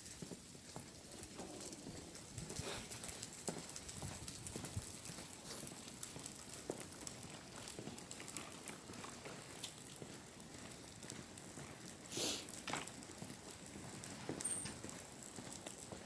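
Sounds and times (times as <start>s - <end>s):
footsteps on pavement: 0.0s - 16.0s
stroller wheels clicking: 0.0s - 16.0s.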